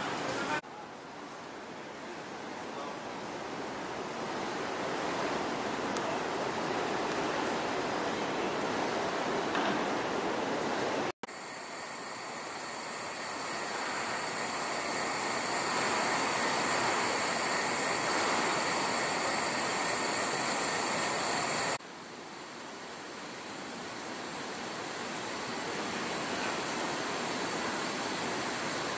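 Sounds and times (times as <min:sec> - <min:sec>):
city air hiss: 0:00.0 - 0:28.9.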